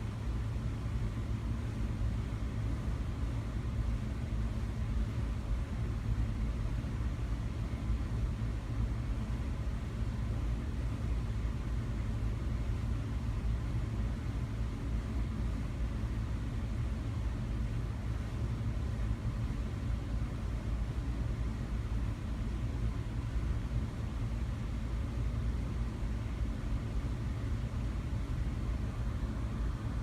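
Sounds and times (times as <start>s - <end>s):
ceiling fan whirring: 0.0s - 30.0s.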